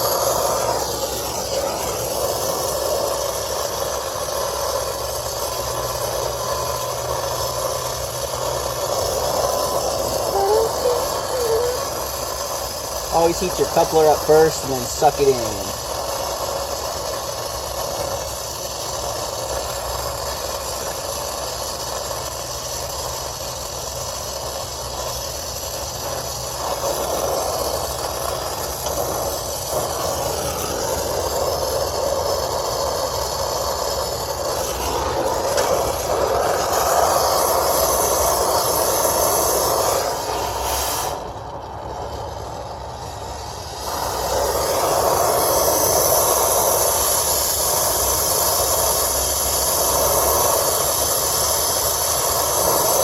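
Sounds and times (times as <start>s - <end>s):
torch flame burning: 0.0s - 53.0s.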